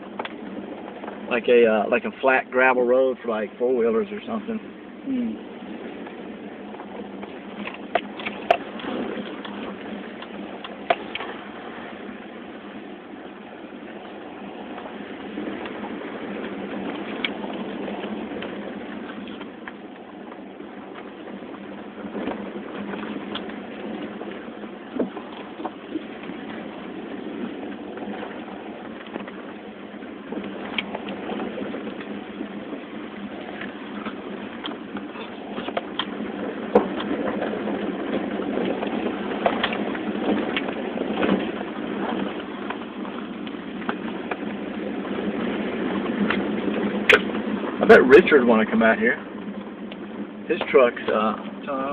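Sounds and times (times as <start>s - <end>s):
engine and tyre rumble: 0.0s - 51.9s.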